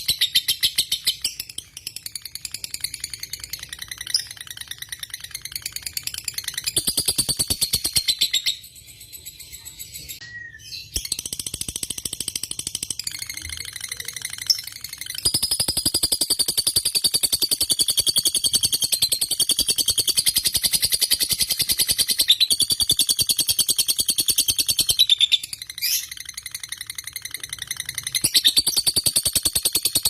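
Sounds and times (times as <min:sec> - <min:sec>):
bird chirping trill: 0:00.0 - 0:30.0.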